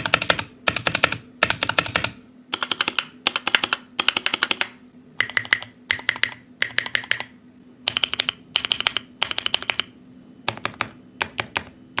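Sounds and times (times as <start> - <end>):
computer keyboard typing: 0.0 - 7.3, 7.9 - 9.9, 10.5 - 12.0.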